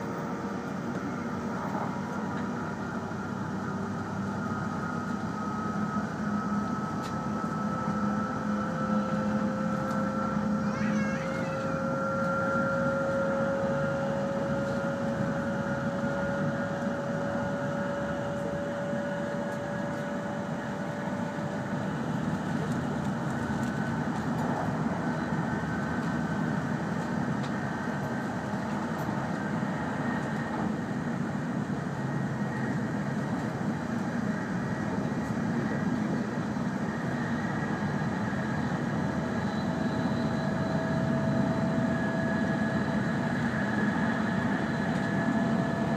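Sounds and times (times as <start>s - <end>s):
train cabin rumble and rush: 0.0s - 45.9s
train whine rising in pitch: 0.0s - 45.9s.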